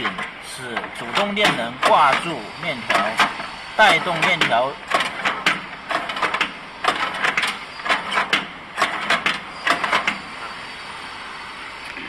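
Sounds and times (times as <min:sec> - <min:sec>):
conveyor chain clattering: 0:00.0 - 0:10.4.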